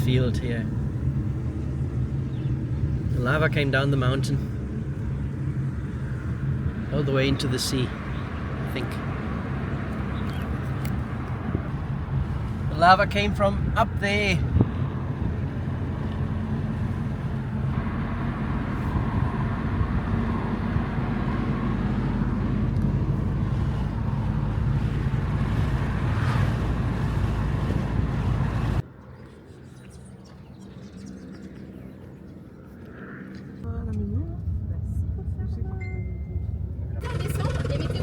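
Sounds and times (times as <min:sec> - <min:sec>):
car engine hum: 0:00.0 - 0:38.0.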